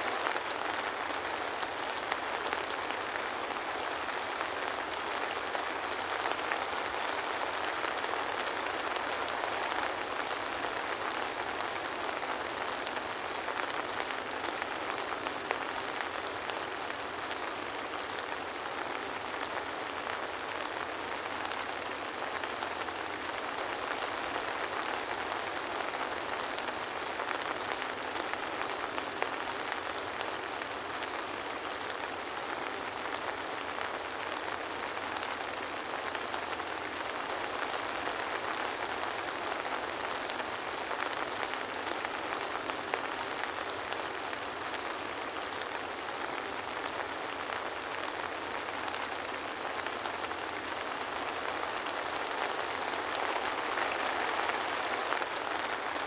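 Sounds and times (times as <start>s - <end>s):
soft rain hiss: 0.0s - 56.0s.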